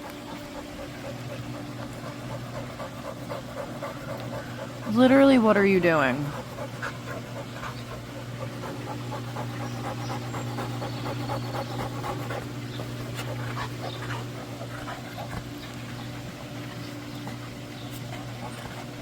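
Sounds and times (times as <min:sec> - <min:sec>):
dog panting: 0:00.0 - 0:19.0
pool heater humming: 0:00.0 - 0:19.0.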